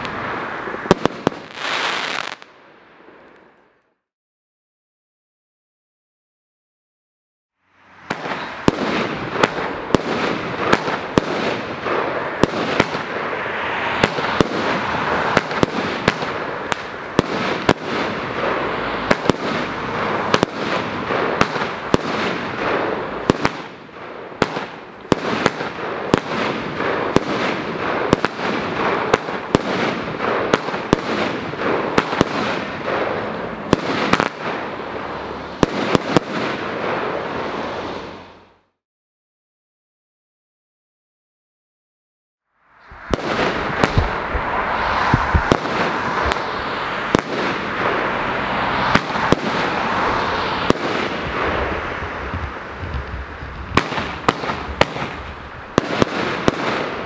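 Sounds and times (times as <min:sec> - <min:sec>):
fireworks bangs: 0:00.0 - 0:03.5, 0:08.0 - 0:38.2, 0:42.9 - 0:57.0
fireworks crackling: 0:00.0 - 0:03.9, 0:08.0 - 0:38.4, 0:42.9 - 0:57.0.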